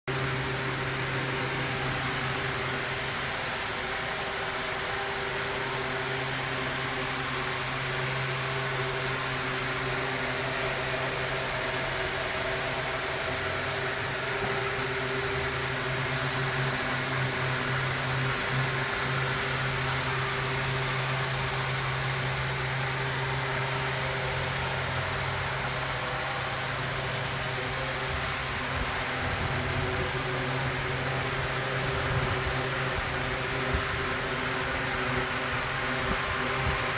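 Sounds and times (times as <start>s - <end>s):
mechanical whir with low hum: 0.1s - 36.9s.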